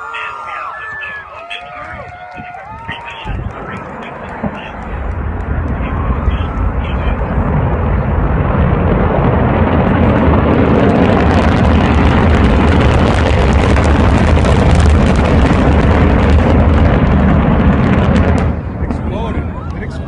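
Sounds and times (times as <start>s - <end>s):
rocket launch roar: 0.0s - 20.0s.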